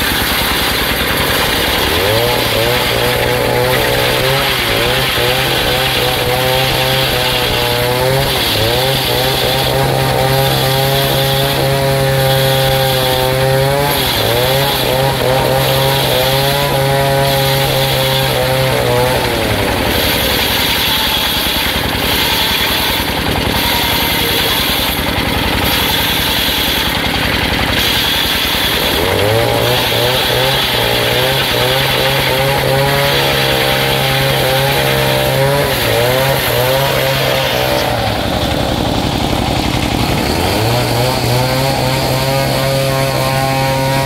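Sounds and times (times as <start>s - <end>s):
circular saw blade ripping log: 0.0s - 44.0s
engine running under load: 0.0s - 44.0s.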